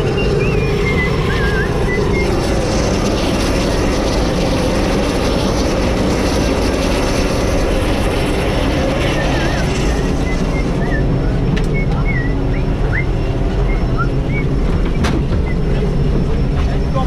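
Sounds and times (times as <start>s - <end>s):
propeller engine running: 0.0s - 17.0s.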